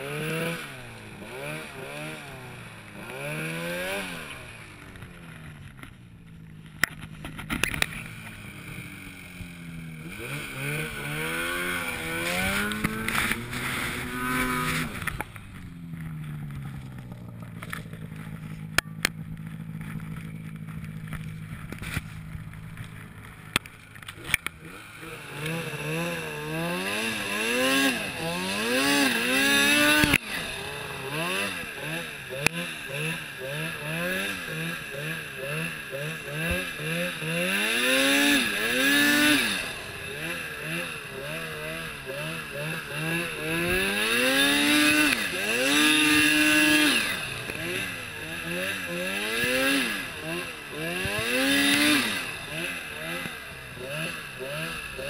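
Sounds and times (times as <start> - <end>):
snowmobile engine revving: 0.0 - 5.8, 6.7 - 55.0.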